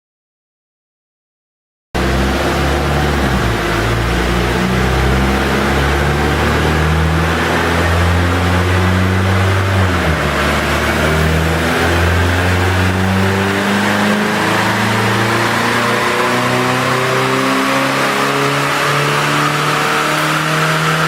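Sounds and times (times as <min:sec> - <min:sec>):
turbocharged engine revving: 0:02.0 - 0:21.0.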